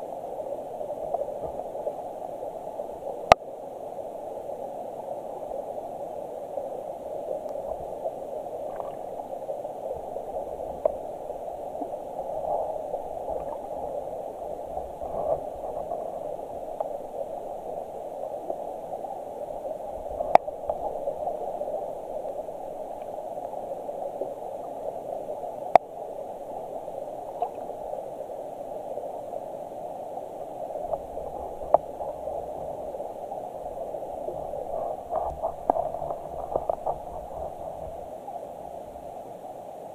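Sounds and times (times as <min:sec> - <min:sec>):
muffled underwater water rushing: 0:00.0 - 0:39.9.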